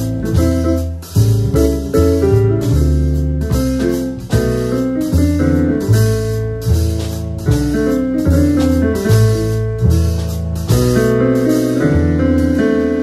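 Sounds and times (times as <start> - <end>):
jazz trio playing: 0.0 - 13.0.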